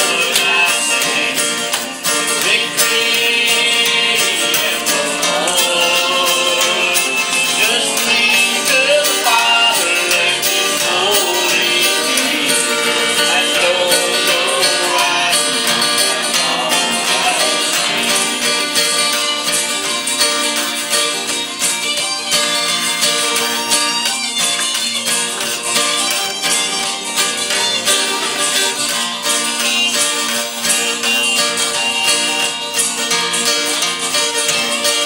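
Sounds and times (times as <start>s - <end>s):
acoustic country music: 0.0s - 35.0s.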